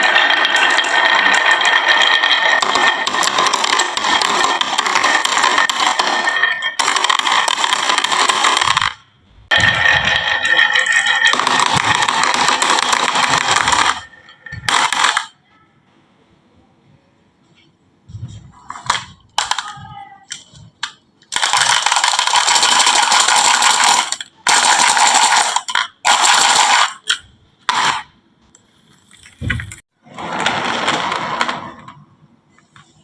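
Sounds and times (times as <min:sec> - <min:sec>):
marbles rolling on wooden track: 0:00.0 - 0:15.4, 0:18.2 - 0:28.0, 0:29.0 - 0:32.1.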